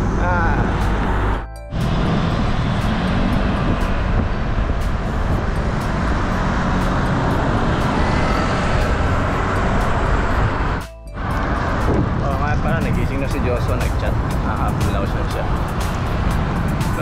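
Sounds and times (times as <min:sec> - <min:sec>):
road traffic noise: 0:00.0 - 0:17.0
wind rumbling on microphone: 0:00.0 - 0:17.0.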